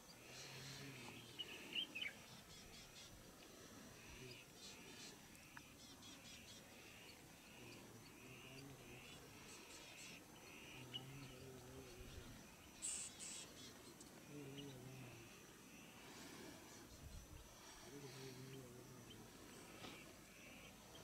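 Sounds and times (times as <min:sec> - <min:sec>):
faint low drawn-out sounds: 0:00.0 - 0:21.0.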